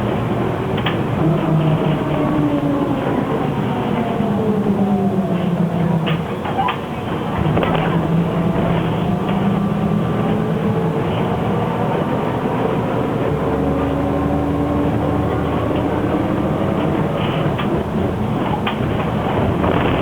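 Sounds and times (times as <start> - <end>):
road and body noise: 0.0 - 12.3, 13.2 - 20.0
low hum: 0.0 - 20.0.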